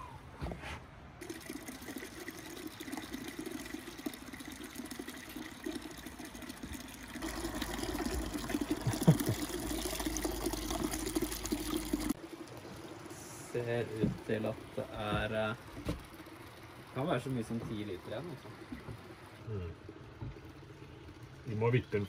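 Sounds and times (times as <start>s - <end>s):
liquid pouring and splashing into bucket: 1.2s - 21.5s.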